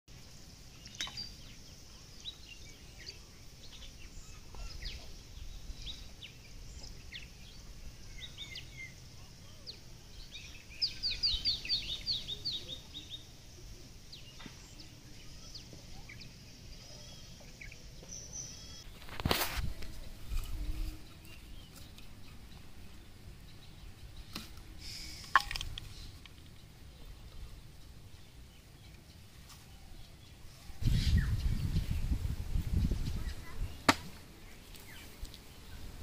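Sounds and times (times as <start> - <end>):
birds chirping and calling: 0.7 - 35.9.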